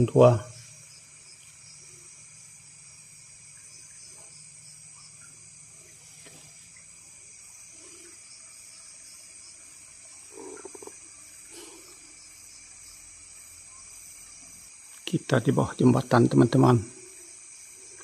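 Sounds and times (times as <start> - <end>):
night insects shrilling: 0.0 - 18.0.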